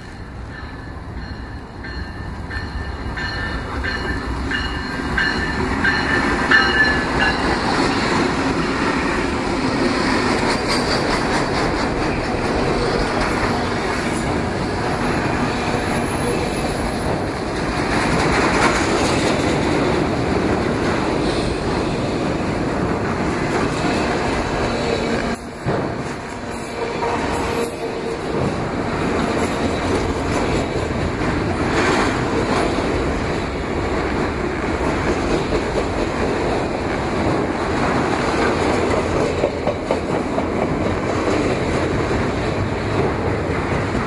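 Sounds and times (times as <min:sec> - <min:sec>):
freight train rumbling past: 0:00.0 - 0:44.0
train wheels clattering: 0:00.0 - 0:44.0.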